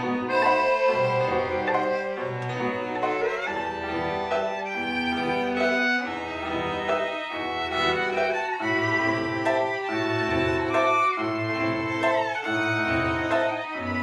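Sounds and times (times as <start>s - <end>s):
orchestral music with bowed strings: 0.0s - 14.0s.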